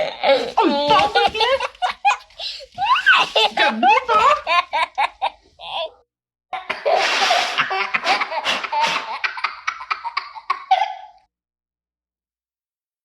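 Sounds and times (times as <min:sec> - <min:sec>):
baby laughing: 0:00.0 - 0:06.0, 0:06.6 - 0:11.2.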